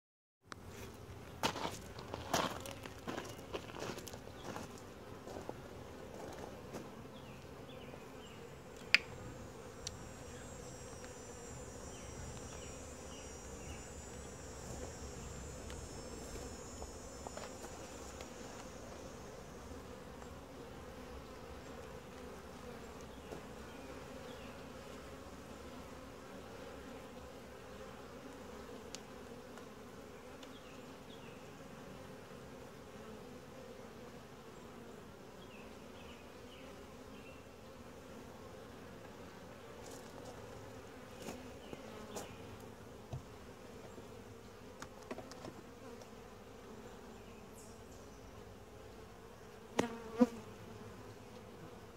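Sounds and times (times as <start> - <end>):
honey bees buzzing: 0.6 - 51.9.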